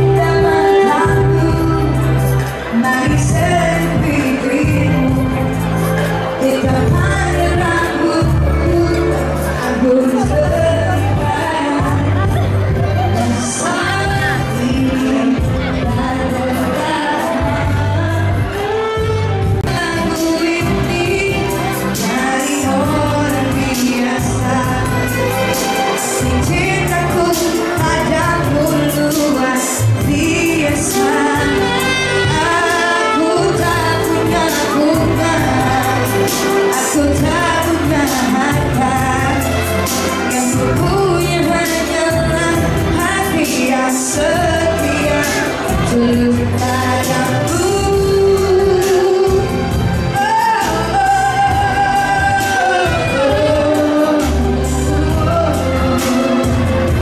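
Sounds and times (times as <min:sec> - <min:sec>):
bass and drums: 0:00.0 - 0:32.6, 0:33.4 - 0:57.0
pop song with singing: 0:00.0 - 0:57.0.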